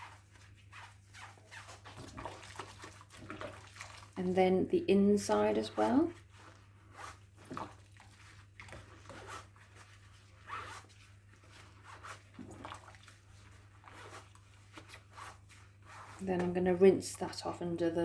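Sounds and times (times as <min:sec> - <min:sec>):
sponge rubbing strokes: 0:00.0 - 0:04.2, 0:05.3 - 0:17.3.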